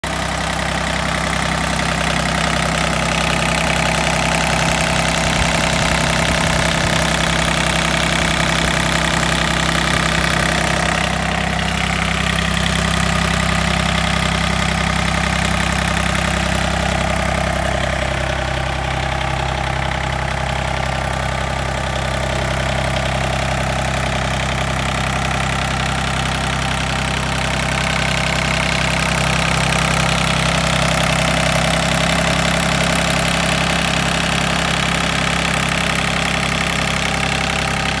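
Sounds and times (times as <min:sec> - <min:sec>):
tractor diesel engine idling: 0:00.0 - 0:38.0.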